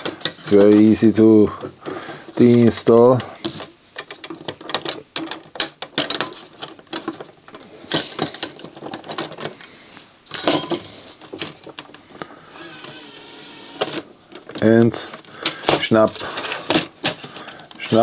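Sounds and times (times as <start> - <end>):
handling rustle: 0.0 - 12.2, 14.3 - 18.0
plastic parts clattering: 0.0 - 18.0.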